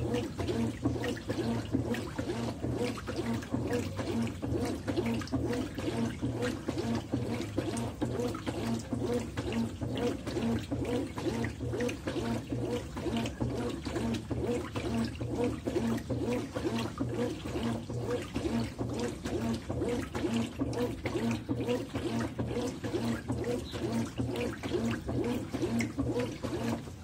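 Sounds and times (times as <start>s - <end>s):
washing machine motor hum: 0.0s - 27.0s
water sloshing in washing machine: 0.0s - 27.0s.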